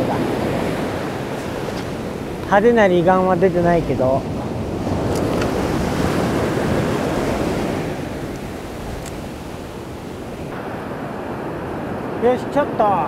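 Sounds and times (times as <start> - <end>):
surf washing up a beach: 0.0 - 13.0.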